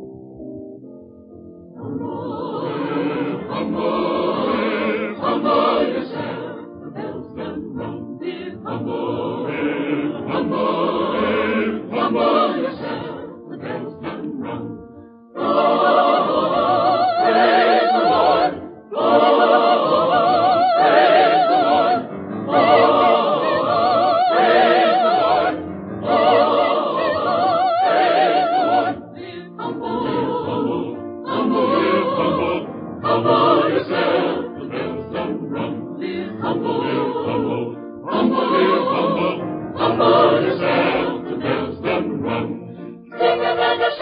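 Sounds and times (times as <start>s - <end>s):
choir singing a hymn: 1.8s - 44.0s.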